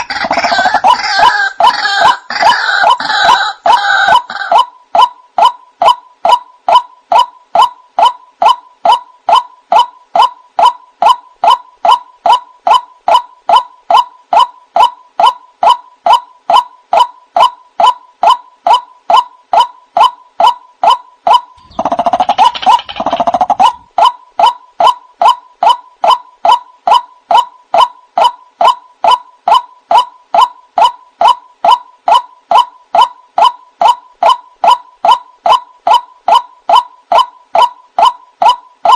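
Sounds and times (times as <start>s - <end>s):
bird calling repeated note: 1.2s - 38.9s.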